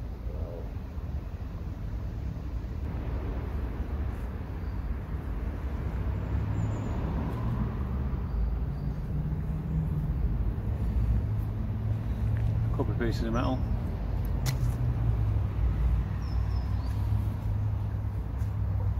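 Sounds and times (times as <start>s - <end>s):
road traffic rumble: 0.0s - 18.9s.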